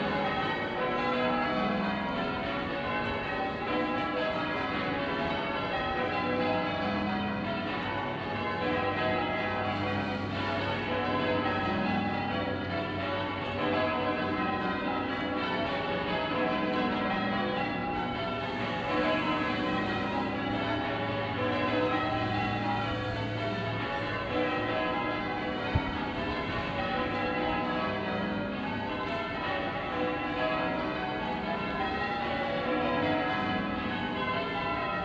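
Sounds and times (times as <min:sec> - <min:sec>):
church bells ringing: 0:00.0 - 0:35.0.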